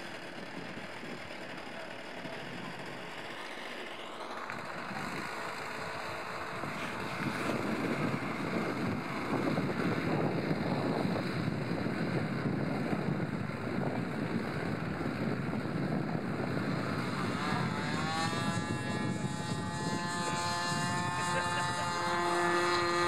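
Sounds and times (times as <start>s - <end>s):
model aircraft motor whine: 0.0s - 23.0s
wind buffeting microphone: 4.5s - 23.0s.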